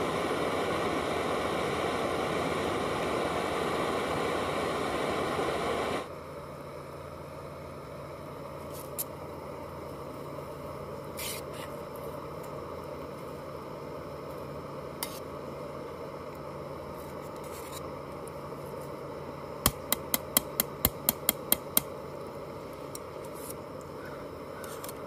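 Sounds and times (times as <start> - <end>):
gas stove burning: 0.0 - 25.0.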